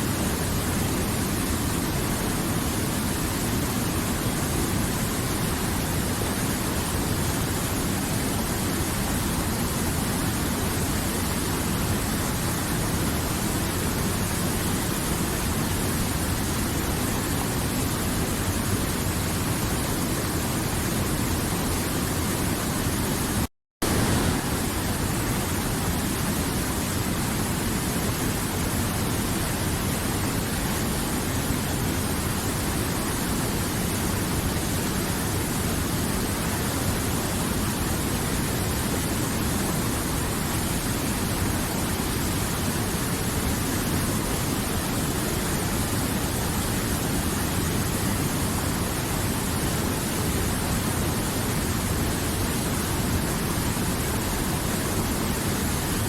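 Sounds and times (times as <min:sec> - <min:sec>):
river water flowing: 0:00.1 - 0:56.0.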